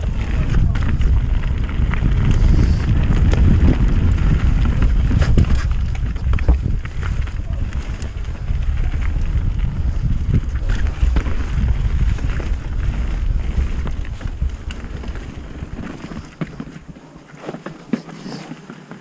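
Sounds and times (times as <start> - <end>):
wind buffeting microphone: 0.0 - 17.0
bike clicks and rattles: 0.0 - 19.0
bike tyre rumble: 0.0 - 19.0.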